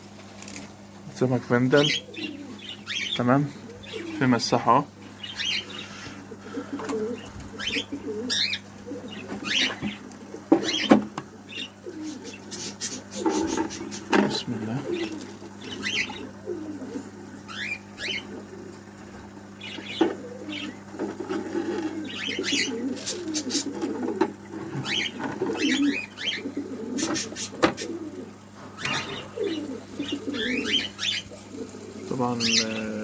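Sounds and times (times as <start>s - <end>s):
pigeons cooing: 0.1s - 33.0s
small cage birds chirping: 0.2s - 33.0s.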